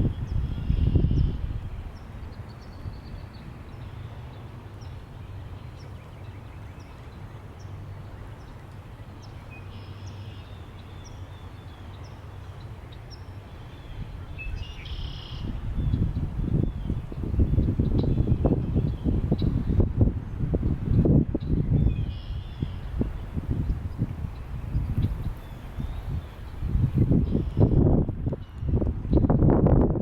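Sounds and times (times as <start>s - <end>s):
low wind rumble: 0.0s - 30.0s.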